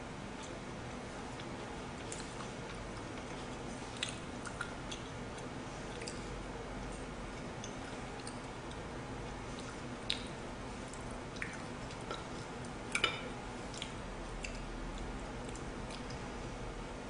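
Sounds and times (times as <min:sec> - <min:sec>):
quiet chewing: 0:00.3 - 0:16.4.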